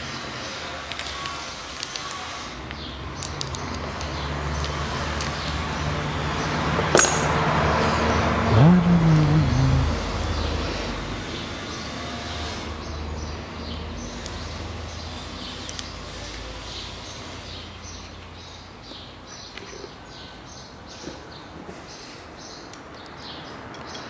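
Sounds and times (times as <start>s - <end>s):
small birds chirping: 0.1s - 6.7s, 9.8s - 24.0s.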